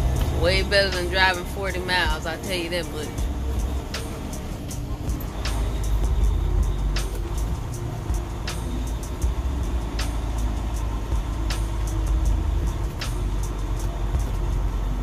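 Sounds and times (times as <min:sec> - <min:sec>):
low truck engine rumble: 0:00.0 - 0:15.0
windshield wipers swishing: 0:00.0 - 0:15.0.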